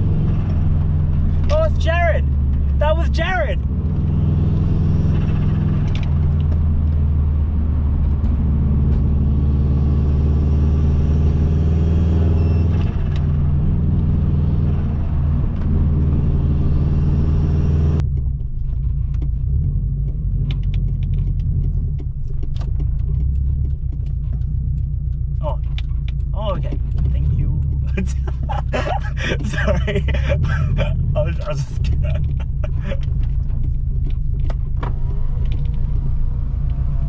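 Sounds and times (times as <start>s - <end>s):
car engine running: 0.0s - 37.0s
road noise: 0.0s - 37.0s.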